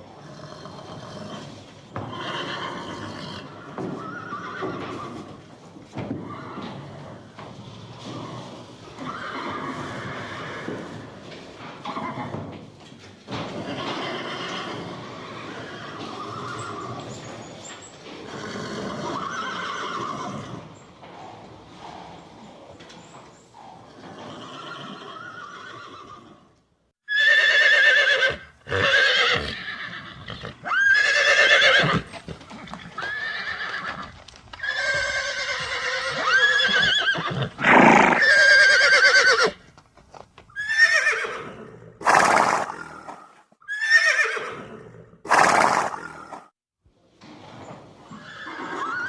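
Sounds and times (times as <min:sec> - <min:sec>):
horses neighing: 0:00.0 - 0:39.7, 0:40.5 - 0:46.5, 0:47.4 - 0:49.0.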